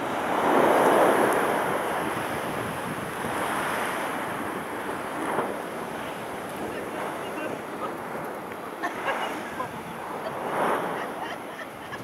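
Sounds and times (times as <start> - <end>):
waves breaking on rocks: 0.0 - 12.0.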